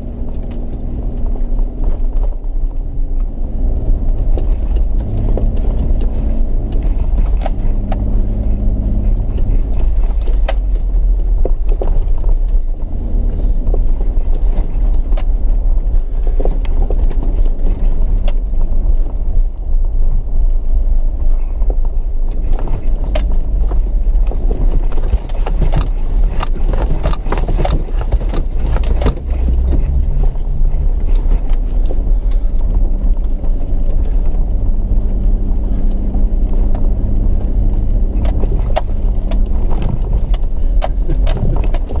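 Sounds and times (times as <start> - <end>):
engine and tyre rumble: 0.0 - 42.0
vehicle rattles and clinks: 0.0 - 42.0.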